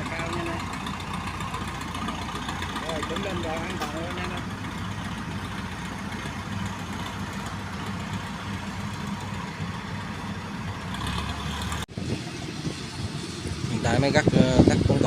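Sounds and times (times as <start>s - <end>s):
harvester engine low drone: 0.0s - 15.0s.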